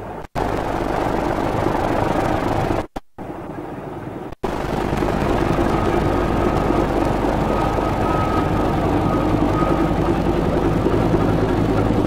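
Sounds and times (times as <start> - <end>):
locomotive running: 0.0 - 12.0.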